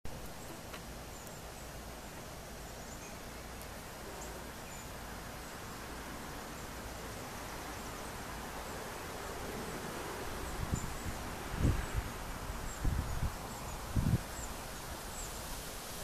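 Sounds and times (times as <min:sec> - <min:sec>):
outdoor background hiss: 0:00.1 - 0:16.0.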